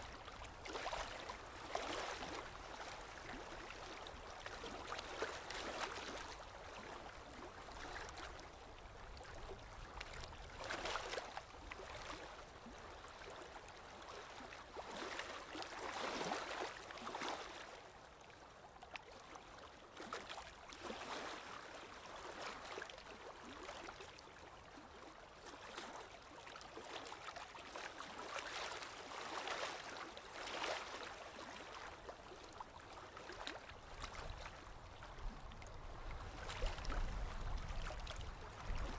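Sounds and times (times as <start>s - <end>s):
water flowing and splashing: 0.0s - 18.4s, 25.4s - 38.9s.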